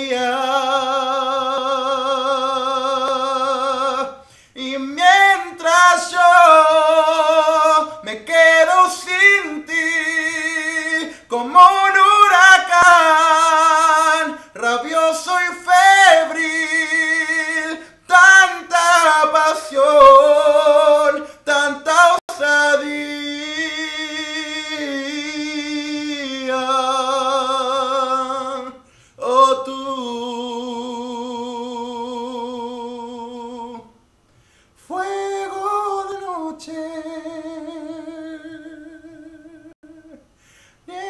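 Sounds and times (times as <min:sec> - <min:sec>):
young man singing unaccompanied: 0:00.0 - 0:34.0, 0:34.8 - 0:41.0.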